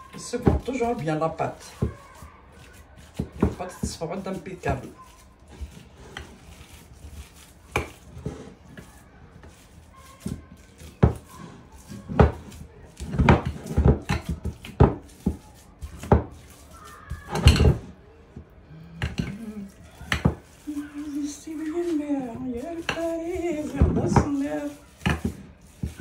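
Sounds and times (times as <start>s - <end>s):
hands kneading paste: 0.0s - 26.0s.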